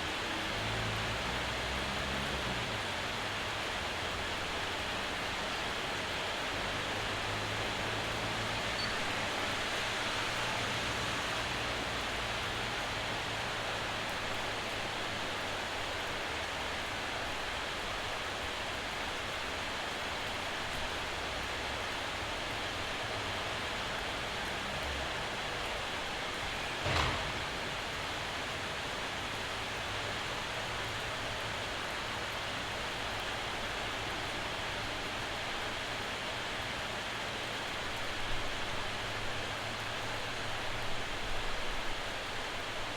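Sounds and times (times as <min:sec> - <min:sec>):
rain shower hiss: 0:00.0 - 0:42.9.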